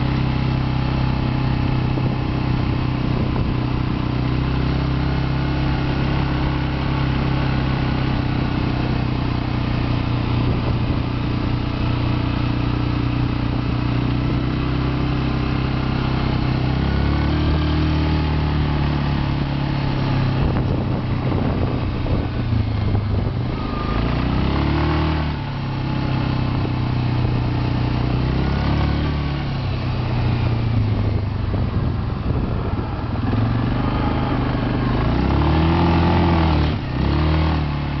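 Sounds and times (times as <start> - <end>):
quad bike engine revving: 0.0 - 38.0.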